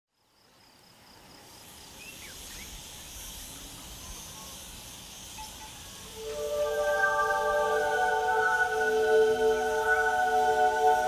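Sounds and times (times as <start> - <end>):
insects trilling: 1.3 - 11.0.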